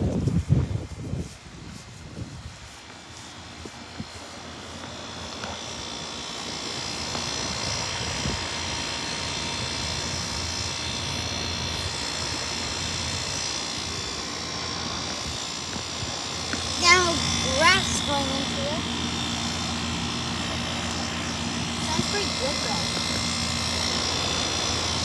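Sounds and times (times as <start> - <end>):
air-conditioner unit droning: 0.0 - 25.0.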